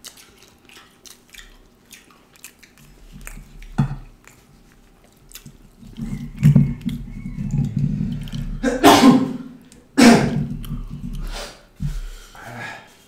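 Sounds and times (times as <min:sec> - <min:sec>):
chewing and mouth sounds: 0:00.0 - 0:08.8, 0:09.6 - 0:12.2
lip smacks: 0:00.0 - 0:08.8, 0:09.6 - 0:12.0.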